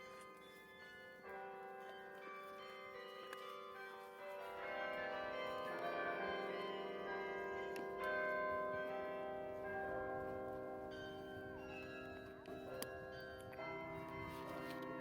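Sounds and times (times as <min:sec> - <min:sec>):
carillon bells playing a tune: 0:00.0 - 0:15.0.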